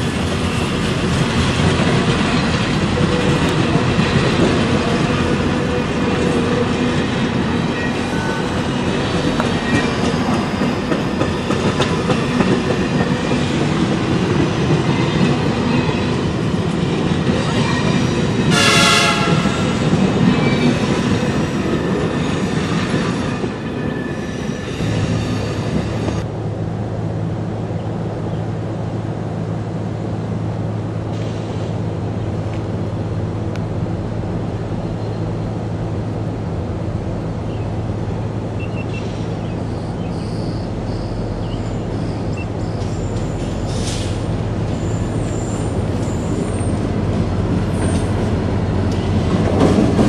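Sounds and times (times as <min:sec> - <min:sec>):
train wheels rumbling on track: 0:00.0 - 0:50.0.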